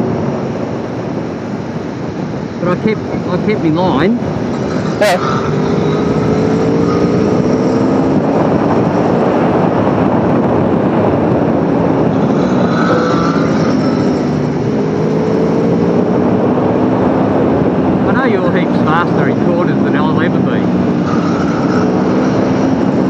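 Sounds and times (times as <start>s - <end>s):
wind noise: 0.0s - 23.0s.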